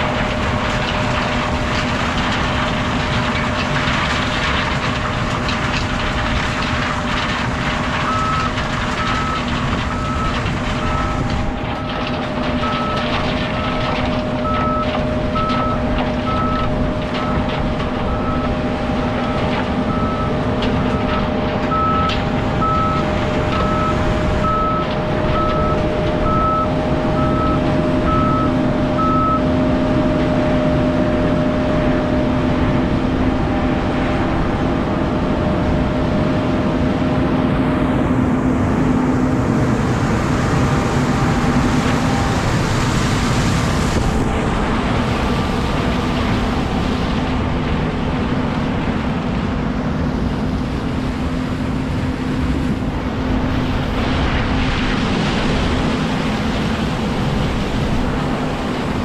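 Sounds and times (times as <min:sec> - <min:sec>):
heavy farm machinery humming: 0:00.0 - 0:59.0.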